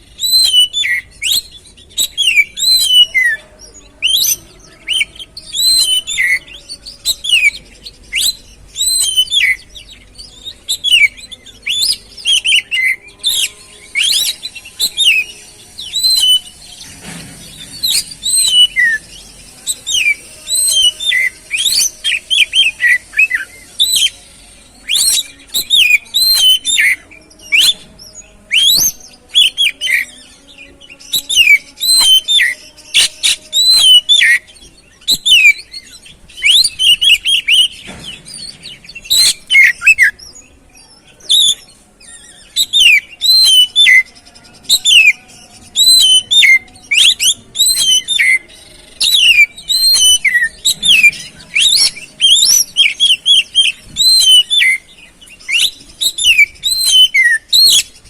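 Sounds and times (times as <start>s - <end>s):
magpie-robin singing: 0.0s - 58.0s.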